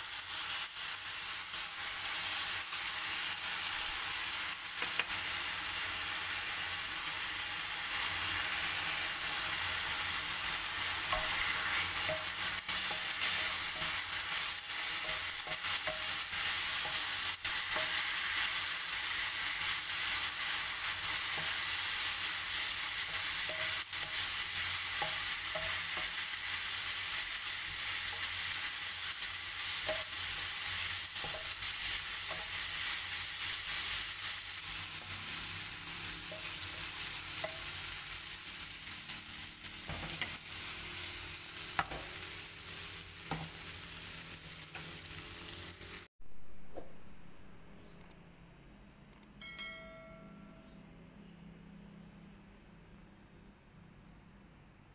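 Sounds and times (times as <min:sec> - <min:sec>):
vegetables sizzling in oil: 0:00.0 - 0:46.1.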